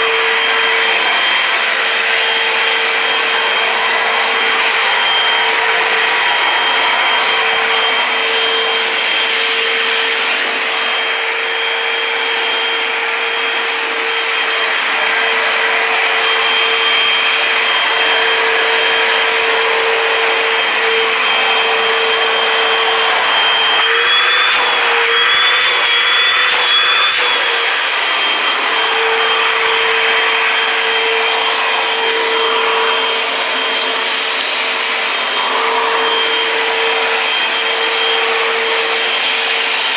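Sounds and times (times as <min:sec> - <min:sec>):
vacuum cleaner high whine: 0:00.0 - 0:39.9.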